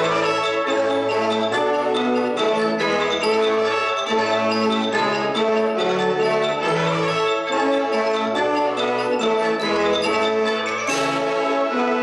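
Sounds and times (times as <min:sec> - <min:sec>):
concert wind band playing: 0:00.0 - 0:12.0
mallet percussion notes: 0:00.0 - 0:12.0.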